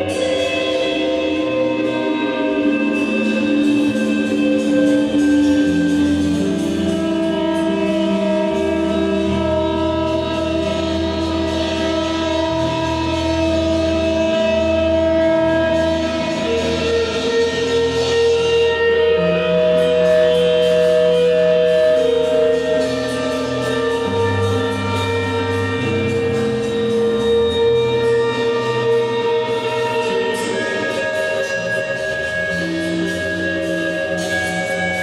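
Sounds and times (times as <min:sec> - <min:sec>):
electric bass long held notes: 0:00.0 - 0:35.0
electric guitar long held notes: 0:00.0 - 0:35.0.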